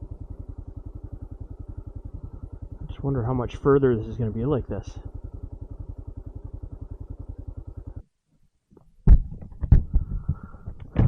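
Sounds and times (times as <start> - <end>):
motorcycle engine thumping: 0.0 - 8.1, 8.7 - 11.0.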